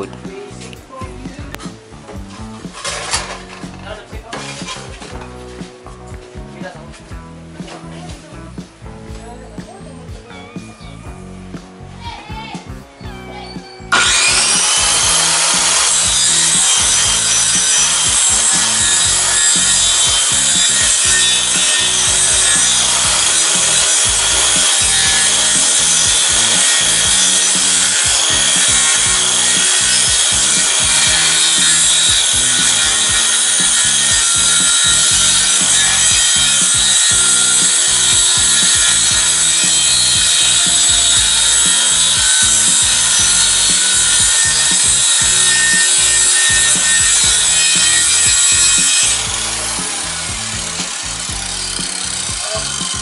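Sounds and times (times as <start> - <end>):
circular saw cutting plywood: 0.0 - 5.3, 13.8 - 53.0.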